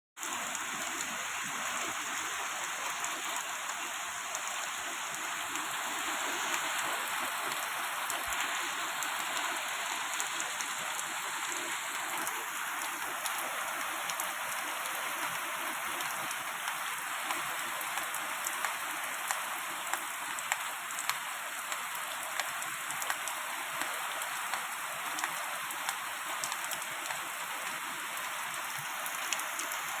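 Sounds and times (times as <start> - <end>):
steady rain falling: 0.2 - 30.0.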